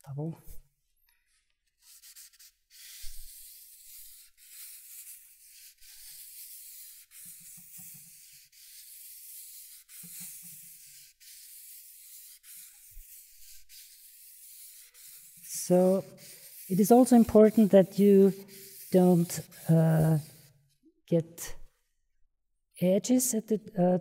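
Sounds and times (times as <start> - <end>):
sandpaper rubbing back and forth: 1.3 - 20.5.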